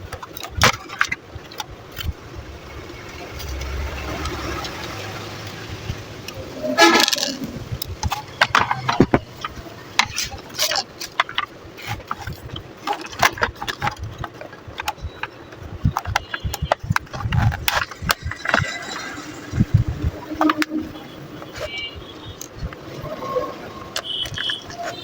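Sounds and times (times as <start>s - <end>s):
sharp clicks and knocks: 0.0s - 22.9s.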